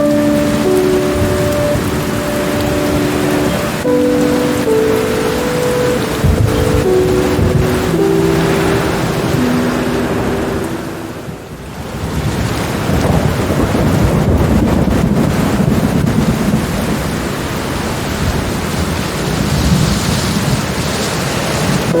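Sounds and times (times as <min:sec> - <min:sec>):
heavy rain: 0:00.0 - 0:22.0
thunder rolling: 0:00.0 - 0:22.0.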